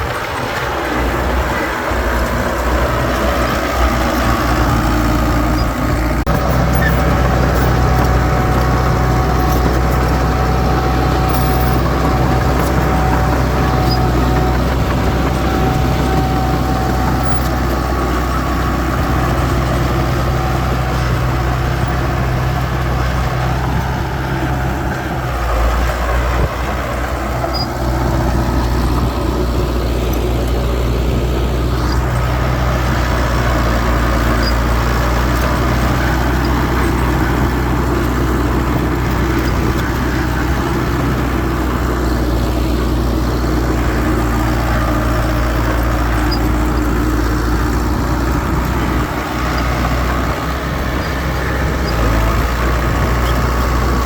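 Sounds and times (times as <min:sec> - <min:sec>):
diesel engine of heavy machinery: 0:00.0 - 0:54.0.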